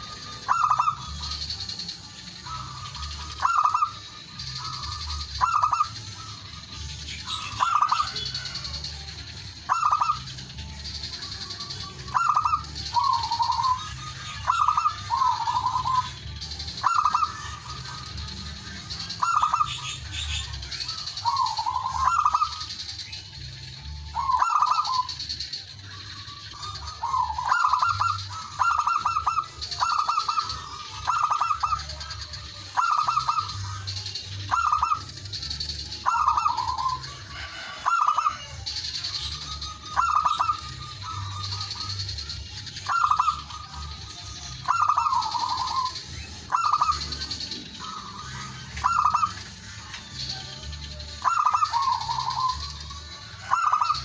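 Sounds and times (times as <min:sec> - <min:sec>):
dove cooing: 0:00.0 - 0:22.8, 0:24.0 - 0:25.5, 0:26.2 - 0:54.0.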